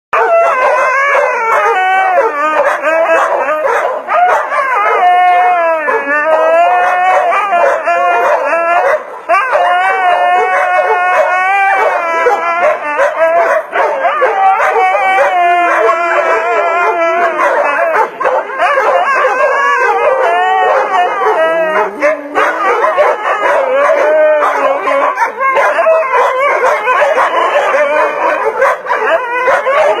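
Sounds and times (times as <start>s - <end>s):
dog howling and yipping: 0.2s - 30.0s.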